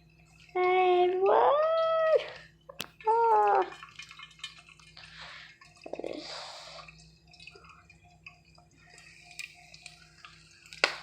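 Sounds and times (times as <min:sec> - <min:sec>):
popcorn kernels sizzling in oil: 0:00.0 - 0:11.0.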